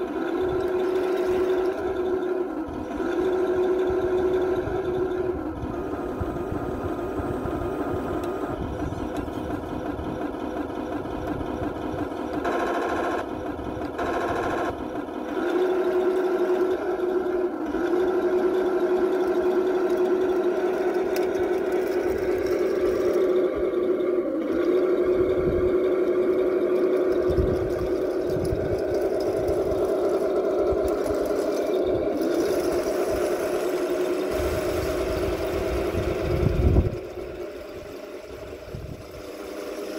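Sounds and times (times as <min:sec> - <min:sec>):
toy tank motor hum and whine: 0:00.0 - 0:39.9.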